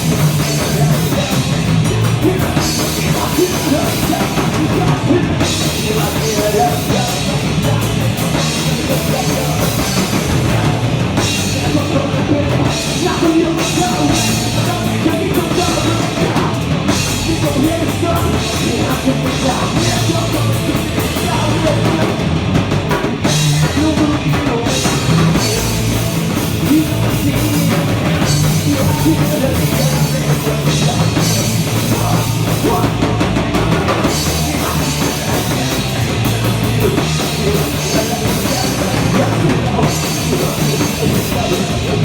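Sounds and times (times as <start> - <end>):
drum kit: 0.0 - 42.0
rock band playing punk metal: 0.0 - 42.0.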